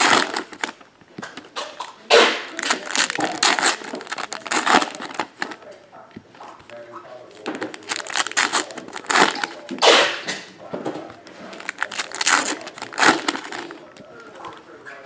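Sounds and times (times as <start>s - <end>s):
foil wrappers crinkling and tearing: 0.0s - 5.7s, 6.6s - 10.3s, 11.2s - 15.0s.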